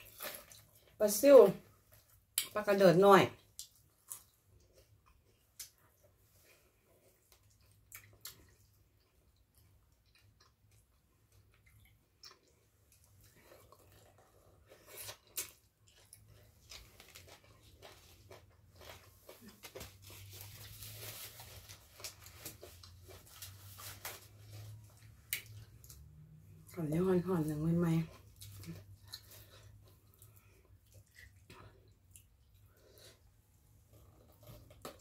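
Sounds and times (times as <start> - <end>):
person chewing and crunching: 0.0 - 1.0, 3.4 - 26.7, 28.0 - 35.0.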